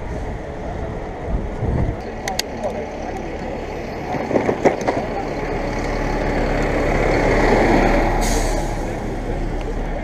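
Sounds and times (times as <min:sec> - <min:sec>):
bus engine running: 0:00.0 - 0:10.0
street noise: 0:00.0 - 0:10.0.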